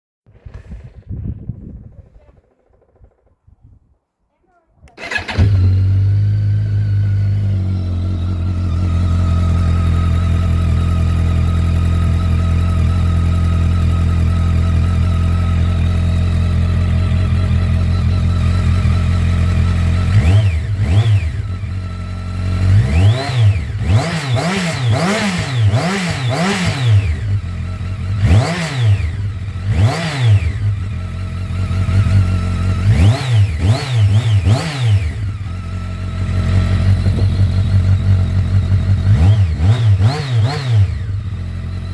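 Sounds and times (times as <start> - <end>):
motorcycle engine idling and revving: 0.3 - 3.9, 4.9 - 41.9.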